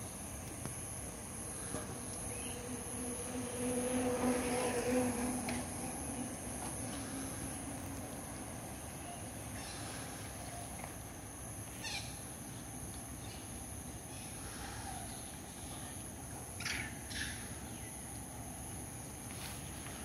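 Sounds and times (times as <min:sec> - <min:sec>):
high constant hiss: 0:00.0 - 0:20.0.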